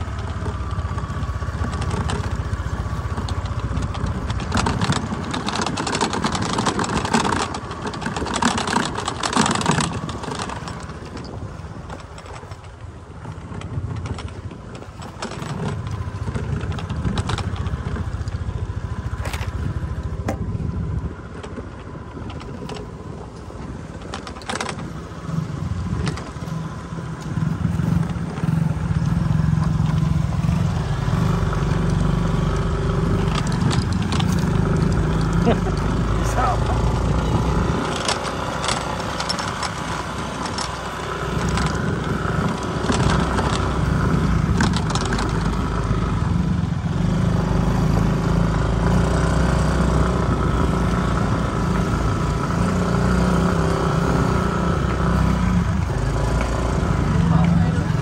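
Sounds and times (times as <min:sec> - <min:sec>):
motorcycle engine running: 0:00.0 - 0:58.0
road noise: 0:00.0 - 0:58.0.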